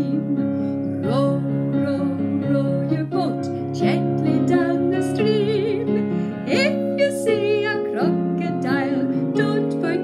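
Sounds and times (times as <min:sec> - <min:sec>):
instrumental accompaniment: 0:00.0 - 0:10.0
woman singing: 0:00.0 - 0:10.0.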